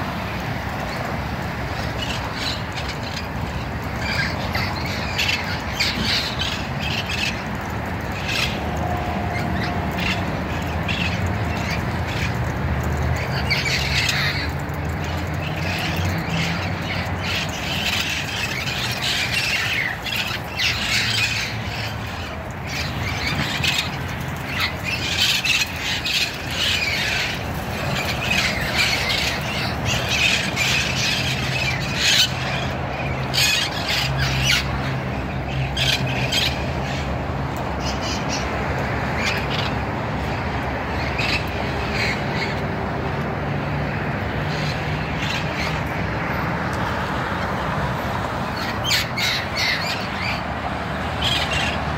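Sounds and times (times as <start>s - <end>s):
flock of parrots squawking: 1.8s - 37.1s, 41.0s - 42.6s, 44.5s - 45.8s, 48.5s - 51.9s.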